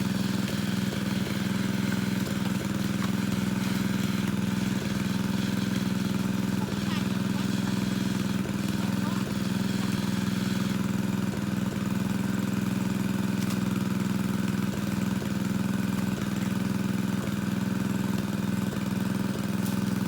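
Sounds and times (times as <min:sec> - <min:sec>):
small engine driving water pump: 0:00.0 - 0:20.0.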